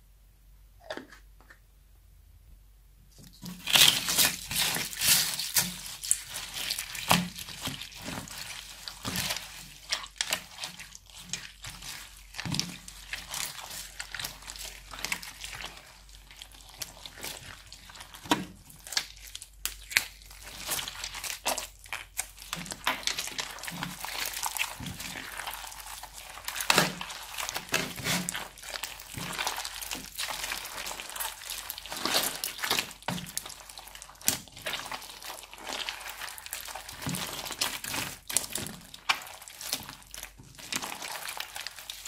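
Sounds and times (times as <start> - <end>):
crunchy slime crackling: 3.3 - 42.0.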